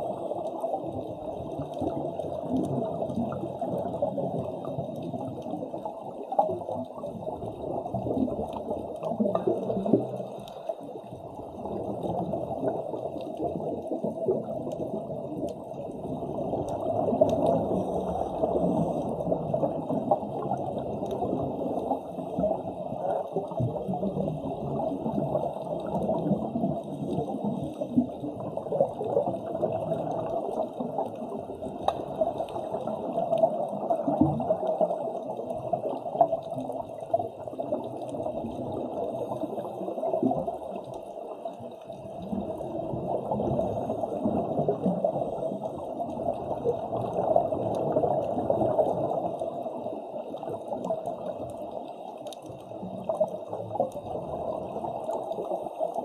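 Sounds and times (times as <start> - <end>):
underwater bubbling and gurgling: 0.0 - 56.0.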